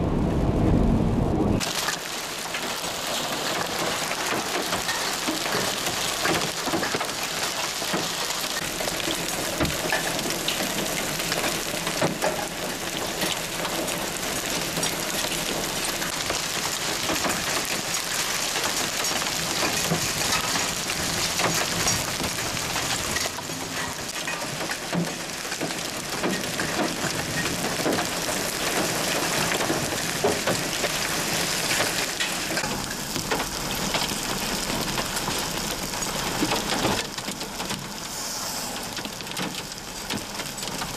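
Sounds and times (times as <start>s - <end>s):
hail and heavy rain pelting: 1.6s - 40.9s.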